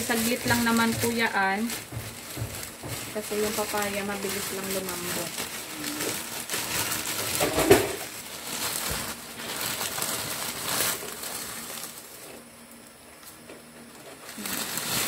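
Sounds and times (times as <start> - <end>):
dry noodles crinkling: 0.0 - 15.0.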